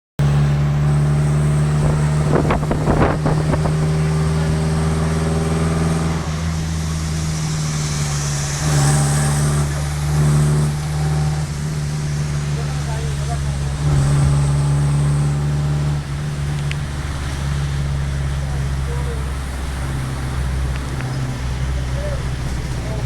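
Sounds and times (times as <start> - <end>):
vehicle engine humming: 0.2 - 23.0.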